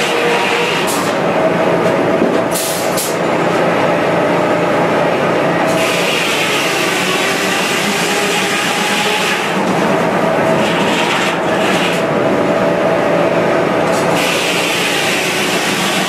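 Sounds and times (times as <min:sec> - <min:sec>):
circular sawmill running: 0:00.0 - 0:16.0.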